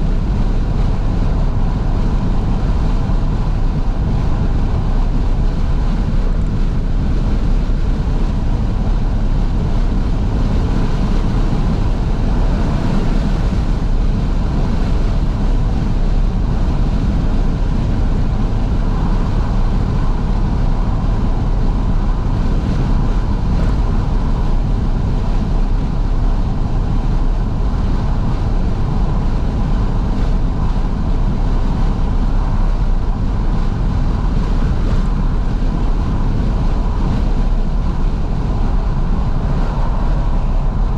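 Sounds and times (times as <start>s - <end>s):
car running: 0.0s - 40.9s
wind rush through open windows: 0.0s - 40.9s.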